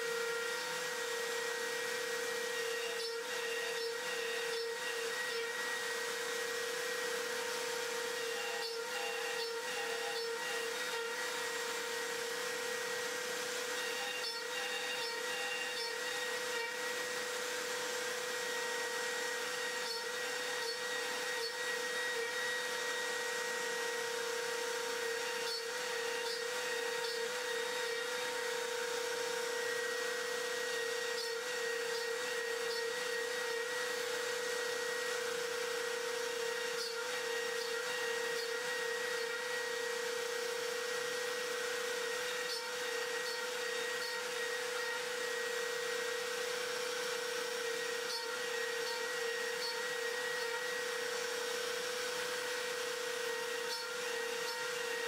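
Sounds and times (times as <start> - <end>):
router spindle whining and cutting: 0.0 - 55.0.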